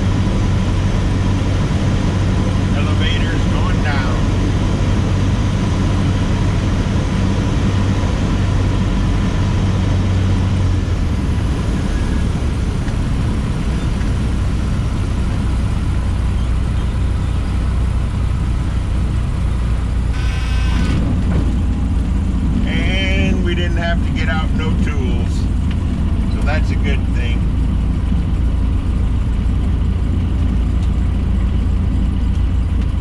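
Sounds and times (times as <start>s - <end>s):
light aircraft engine drone: 0.0s - 33.0s.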